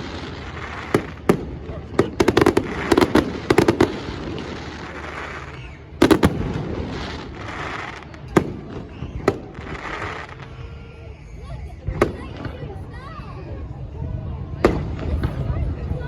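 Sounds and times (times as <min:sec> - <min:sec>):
fireworks bangs: 0:00.0 - 0:13.2, 0:14.5 - 0:16.0
fireworks crackle and hiss: 0:00.0 - 0:16.0.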